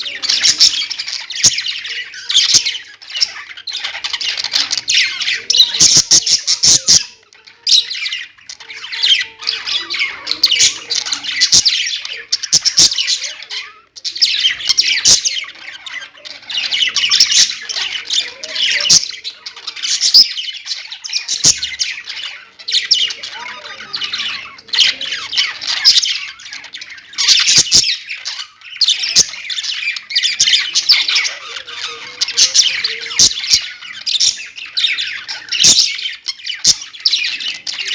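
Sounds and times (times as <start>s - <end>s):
budgerigars chattering and chirping: 0.0s - 37.9s.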